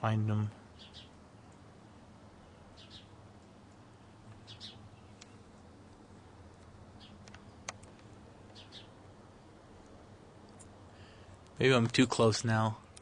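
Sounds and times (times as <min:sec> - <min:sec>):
low steady hum: 0:00.0 - 0:13.0
small bird chirping faintly: 0:00.4 - 0:11.3.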